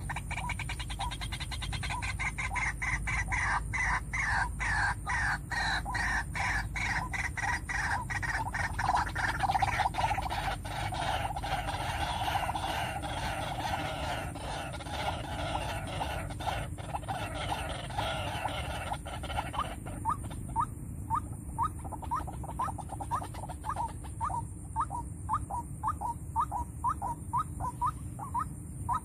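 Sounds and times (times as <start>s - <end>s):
waterhen calling: 0.0s - 29.0s.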